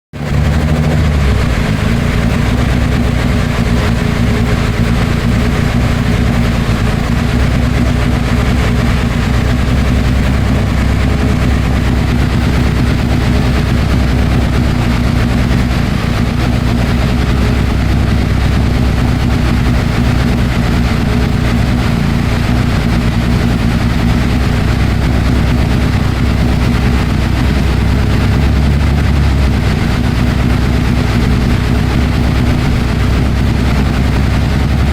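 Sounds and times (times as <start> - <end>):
car engine running steadily: 0.1 - 34.9.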